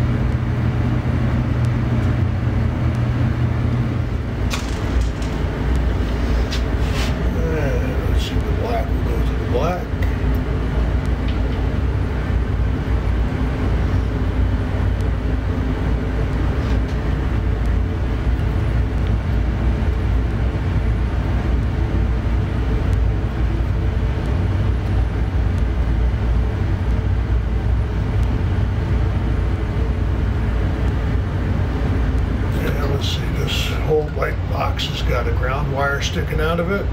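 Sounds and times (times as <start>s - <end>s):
faint hum: 0.0s - 36.9s
low rumbling noise: 0.0s - 36.9s.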